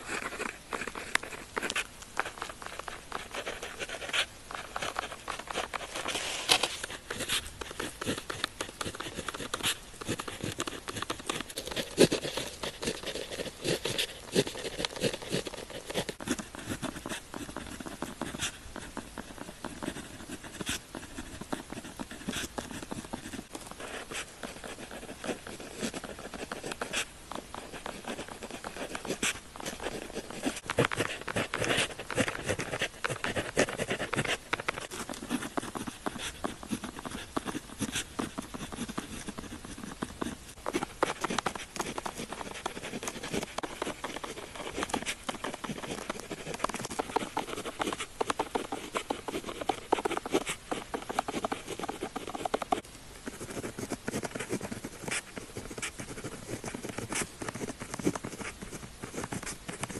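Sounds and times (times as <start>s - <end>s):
pen scratching on paper: 0.0s - 59.9s.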